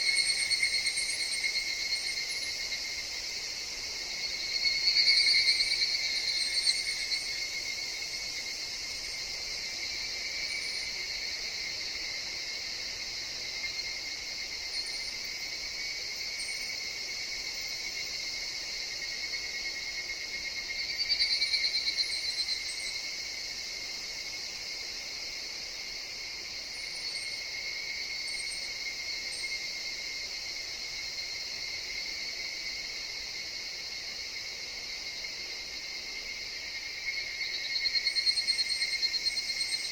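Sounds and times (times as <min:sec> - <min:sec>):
cicada chorus ringing: 0:00.0 - 0:39.9.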